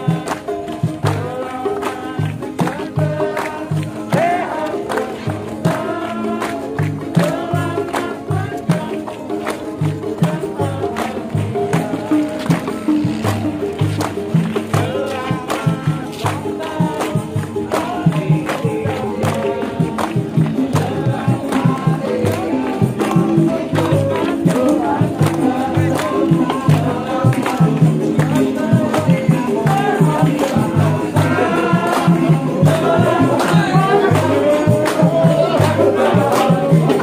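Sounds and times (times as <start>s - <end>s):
group singing: 0.0s - 37.0s
percussion beat: 0.0s - 37.0s.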